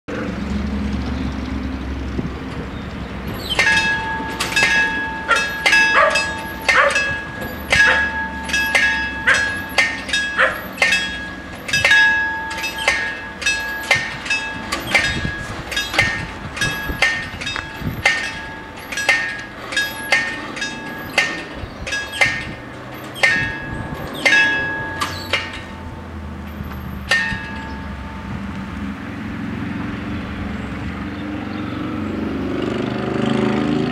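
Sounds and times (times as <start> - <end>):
level crossing bells ringing: 3.2 - 31.1.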